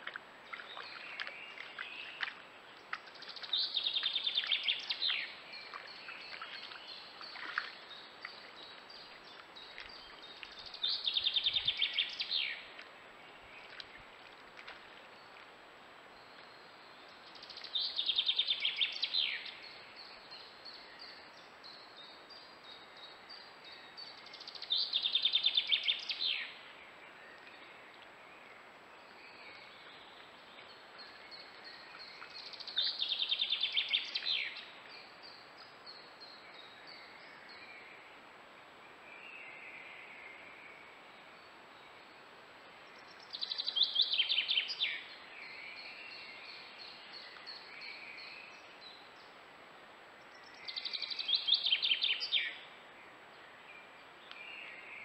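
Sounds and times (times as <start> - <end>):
faint water splashes: 0.0 - 21.4, 23.4 - 55.0
faint hiss: 0.0 - 55.0.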